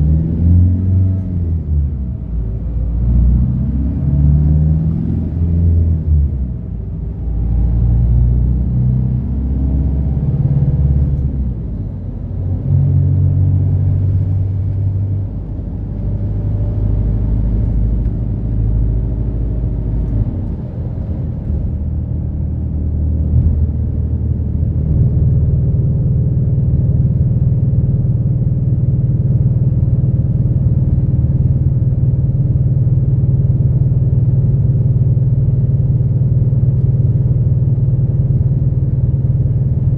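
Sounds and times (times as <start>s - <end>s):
bus diesel engine from inside: 0.0s - 39.9s.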